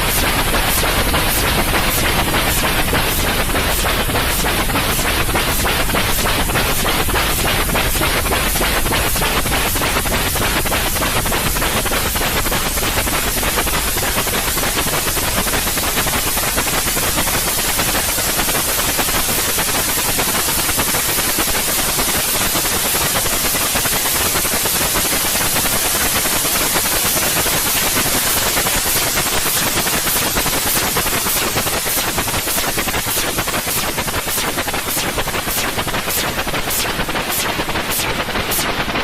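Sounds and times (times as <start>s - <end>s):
steady white noise hiss: 0.0s - 39.0s.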